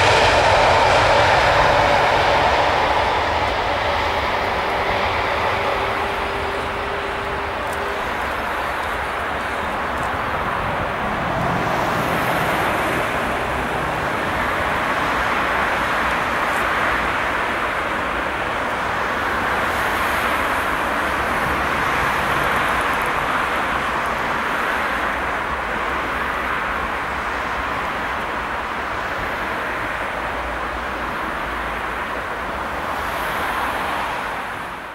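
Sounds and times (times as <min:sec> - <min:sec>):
jet engines hissing and rumbling: 0:00.0 - 0:34.9.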